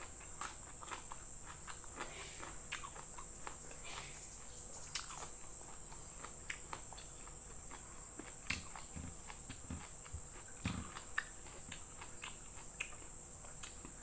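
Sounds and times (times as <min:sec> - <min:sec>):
person chewing food: 0:00.0 - 0:14.0
steady high-pitched hiss: 0:00.0 - 0:14.0.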